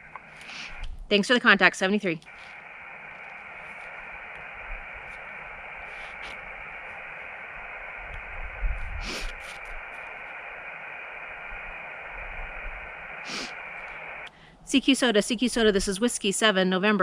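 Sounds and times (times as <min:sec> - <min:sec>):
radio static hiss: 0:00.0 - 0:16.6.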